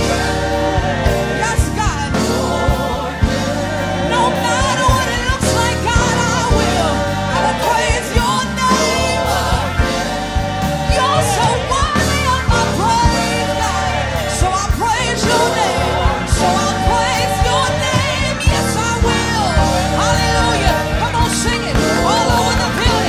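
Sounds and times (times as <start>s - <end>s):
band drums and bass: 0.0s - 23.0s
gospel choir singing: 0.0s - 23.0s.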